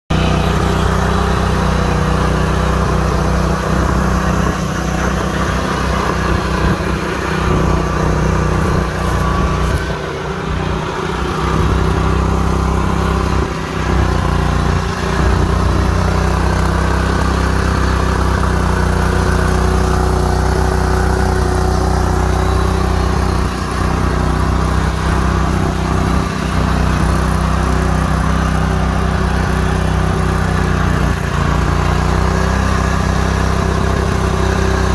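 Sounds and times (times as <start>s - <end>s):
garden tractor engine running: 0.1s - 34.9s.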